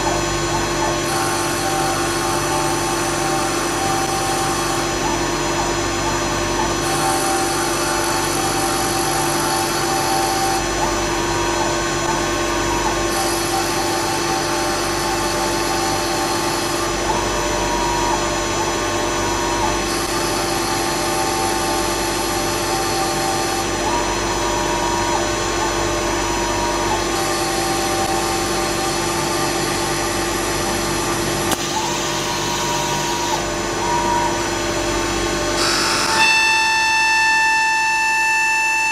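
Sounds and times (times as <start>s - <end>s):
high machine whine: 0.0s - 38.9s
lathe machine hum: 0.0s - 38.9s.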